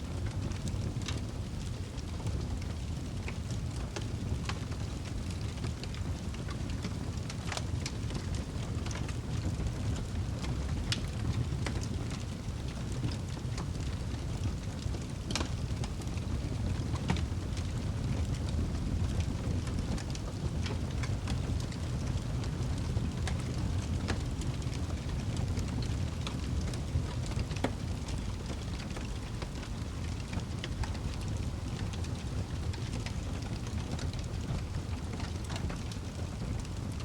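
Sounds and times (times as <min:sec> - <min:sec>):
fire crackles and pops: 0:00.0 - 0:37.0
fire rumbling in fireplace: 0:00.0 - 0:37.0.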